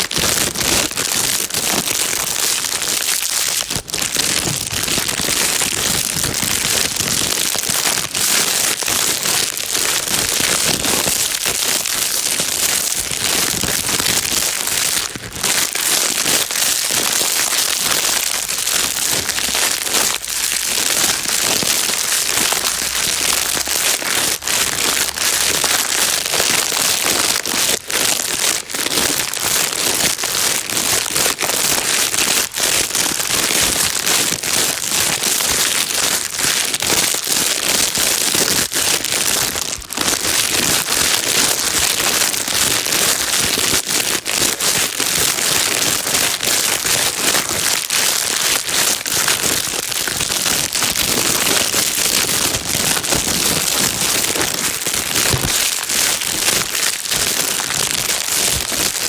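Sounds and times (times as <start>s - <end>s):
plastic bag crinkling: 0.0s - 59.0s.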